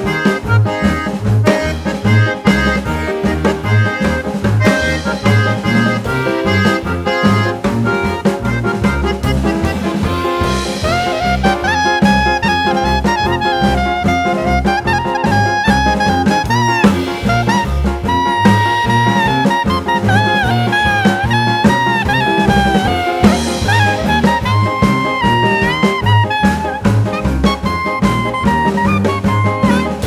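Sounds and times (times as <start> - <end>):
upbeat jazz music: 0.0 - 30.0.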